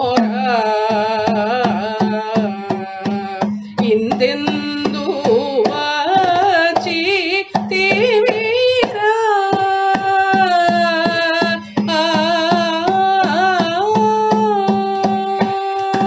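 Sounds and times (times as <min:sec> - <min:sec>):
hand drum strokes: 0:00.0 - 0:16.0.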